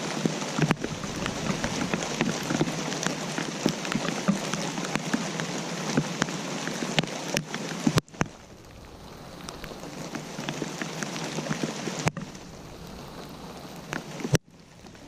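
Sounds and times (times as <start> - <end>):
rain falling: 0.0 - 15.0
raindrops tapping: 0.0 - 15.0.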